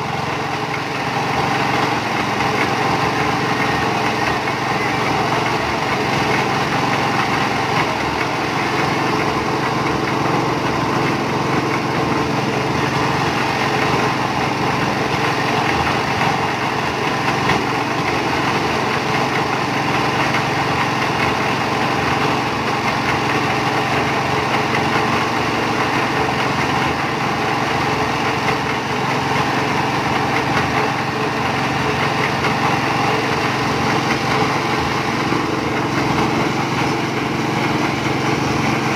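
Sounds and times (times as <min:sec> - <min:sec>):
concrete mixer engine running: 0:00.0 - 0:38.9.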